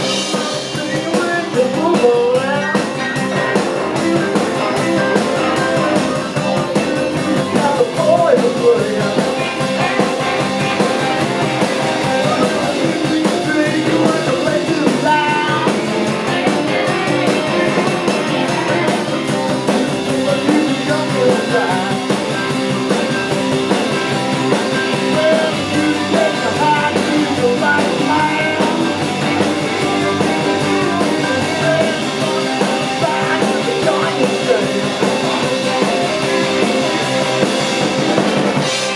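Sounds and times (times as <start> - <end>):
person singing: 0.0 - 37.7
electric guitar: 0.0 - 38.9
live rock band playing: 0.0 - 38.9.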